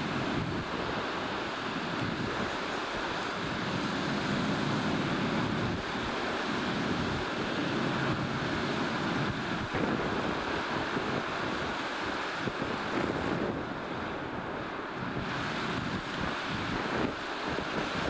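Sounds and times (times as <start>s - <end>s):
rough sea breaking: 0.0s - 18.0s
strong wind on microphone: 0.0s - 18.0s.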